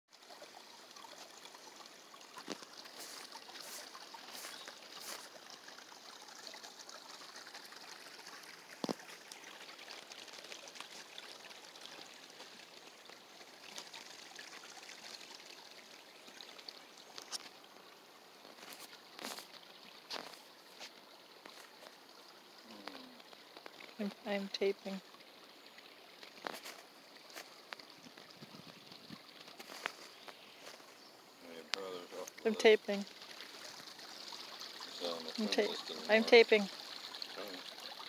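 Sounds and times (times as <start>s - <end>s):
brook trickling over stones: 0.1s - 38.0s.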